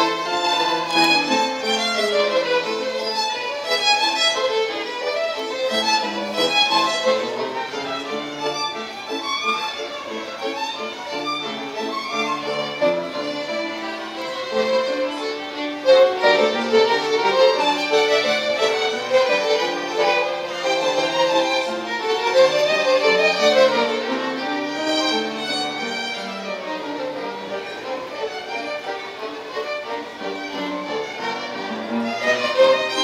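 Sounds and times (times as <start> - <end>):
violins playing a tune: 0.0 - 33.0.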